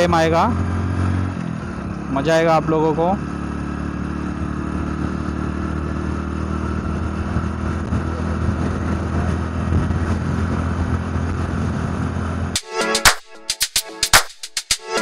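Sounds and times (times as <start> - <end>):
motorcycle engine running: 0.0 - 12.6
wind and road noise: 0.0 - 12.6.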